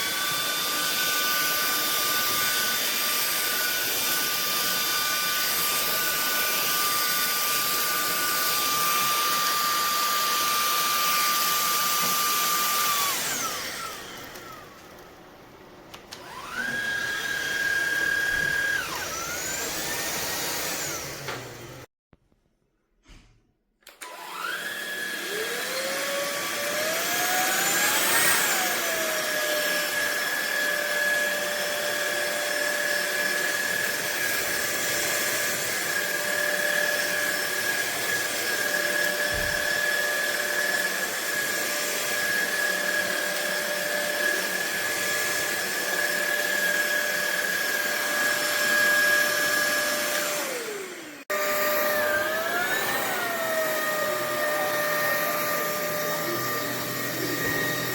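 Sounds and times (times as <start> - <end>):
vacuum cleaner motor whine: 0.0 - 21.9, 23.8 - 57.9.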